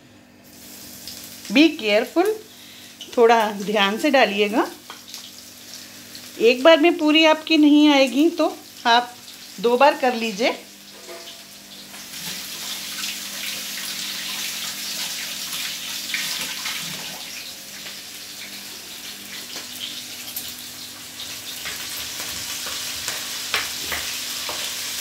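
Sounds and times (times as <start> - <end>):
okra frying in hot oil: 0.4 - 25.0.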